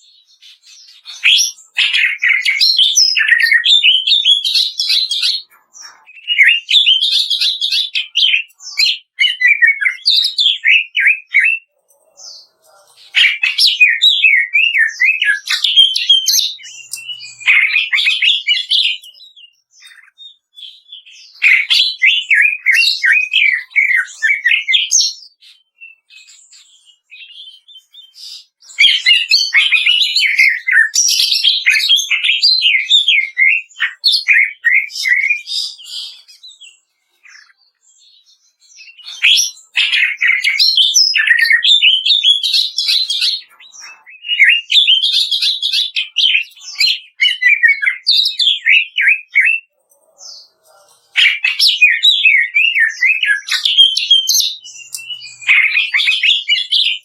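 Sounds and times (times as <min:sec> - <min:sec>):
bird singing rattling song: 0:00.0 - 0:57.0.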